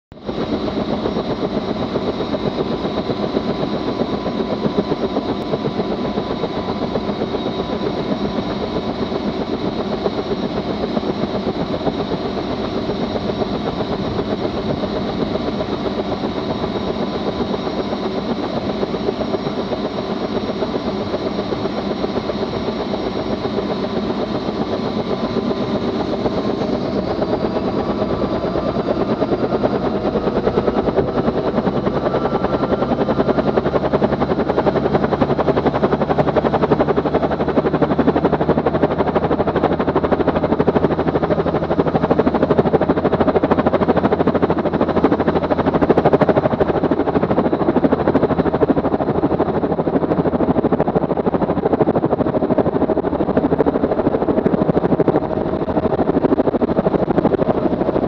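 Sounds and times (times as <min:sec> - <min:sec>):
helicopter engine and rotor: 0:00.1 - 0:58.0.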